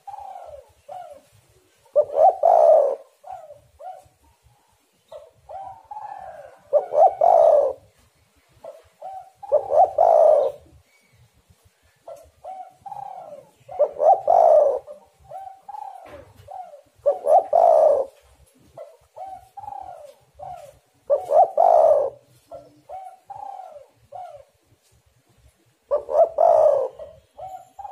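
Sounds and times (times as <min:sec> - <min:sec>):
dove cooing: 0:00.0 - 0:08.0, 0:08.6 - 0:10.9, 0:11.8 - 0:24.7, 0:25.8 - 0:27.9.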